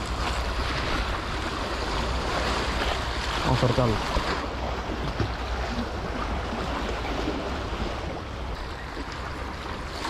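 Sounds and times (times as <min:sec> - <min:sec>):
sea water washing against rocks: 0:00.0 - 0:10.0.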